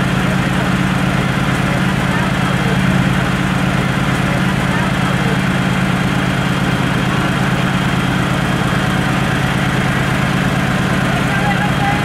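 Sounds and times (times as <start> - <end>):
heavy truck engine idling: 0.0 - 12.0.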